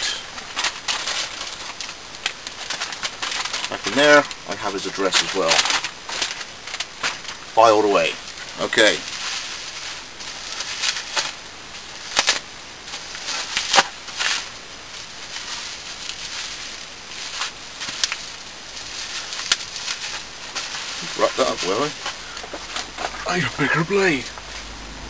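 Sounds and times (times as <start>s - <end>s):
packaging rustling and crinkling: 0.0s - 24.7s.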